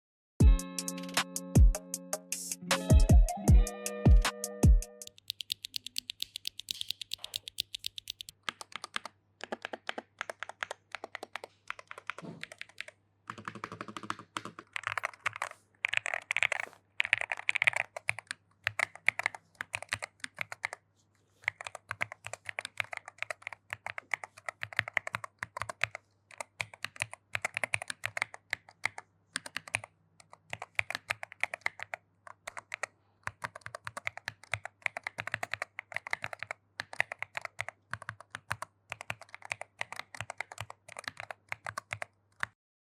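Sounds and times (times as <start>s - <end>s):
mechanical keyboard typing: 5.0s - 20.8s, 21.4s - 42.6s.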